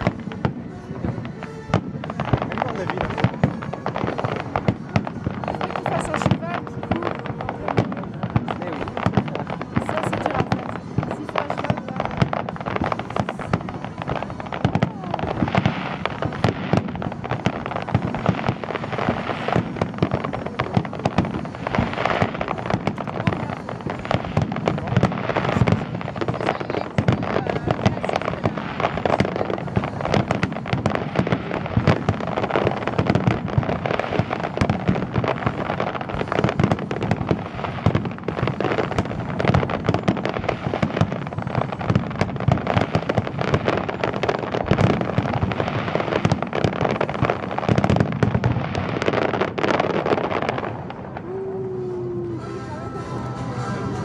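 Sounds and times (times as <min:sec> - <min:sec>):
fireworks bursts and crackling: 0:00.0 - 0:54.0.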